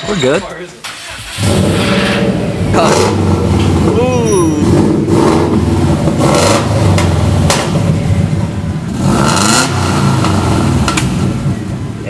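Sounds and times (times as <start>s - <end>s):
car engine revving: 0.8s - 12.0s.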